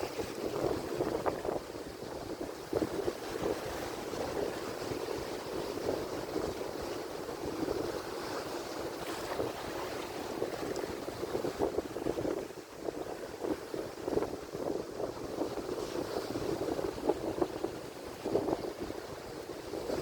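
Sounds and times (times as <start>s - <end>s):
ocean waves breaking: 0.0s - 20.0s
wind on microphone: 0.0s - 20.0s.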